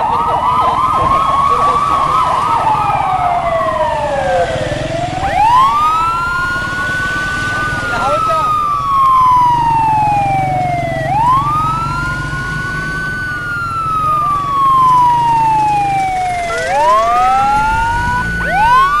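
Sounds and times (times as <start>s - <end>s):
police sirens wailing: 0.0s - 19.0s
truck engines driving past: 0.0s - 19.0s.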